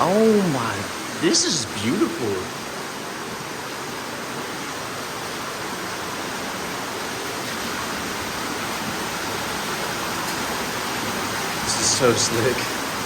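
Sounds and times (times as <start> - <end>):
water falling and running: 0.0 - 13.0.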